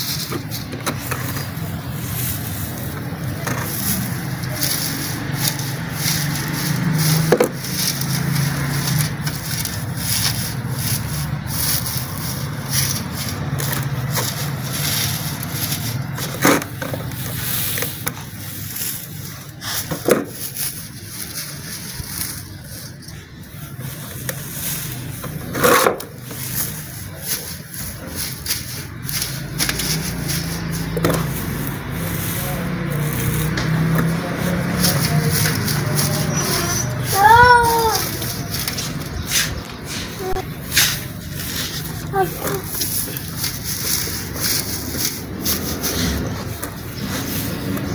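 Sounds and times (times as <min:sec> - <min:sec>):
dry fibres rustling and crackling: 0:00.0 - 0:47.9.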